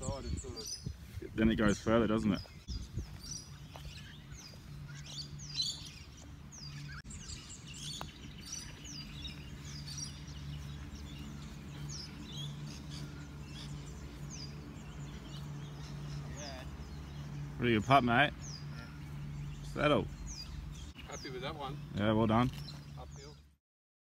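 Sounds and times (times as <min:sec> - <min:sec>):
steady low hum: 0:00.0 - 0:22.1
birds chirping: 0:00.0 - 0:23.6.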